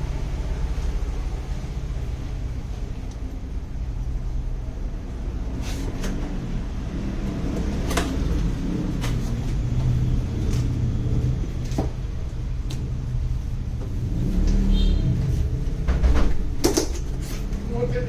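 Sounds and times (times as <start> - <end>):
steady low rumble: 0.0 - 5.6, 6.2 - 16.6.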